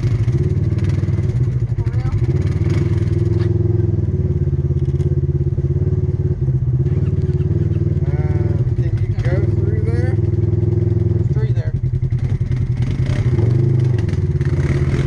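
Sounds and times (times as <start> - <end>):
atv engine droning: 0.0 - 15.0.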